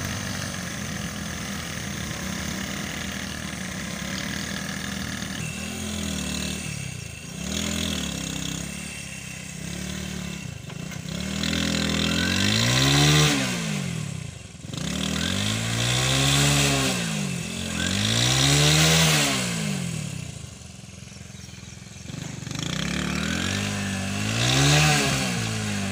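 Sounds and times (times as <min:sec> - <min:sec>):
engine running steadily: 0:00.0 - 0:25.9
motorcycle engine revving: 0:00.0 - 0:25.9.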